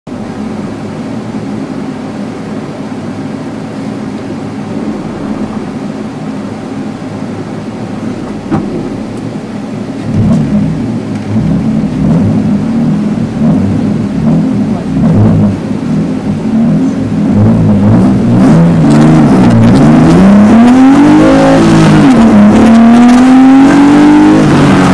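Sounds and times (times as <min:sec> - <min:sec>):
rally car engine rumble: 0:00.1 - 0:24.9.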